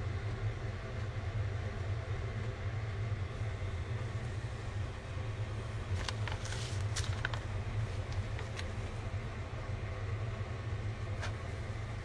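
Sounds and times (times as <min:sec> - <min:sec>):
kitchen background hum: 0:00.0 - 0:12.0.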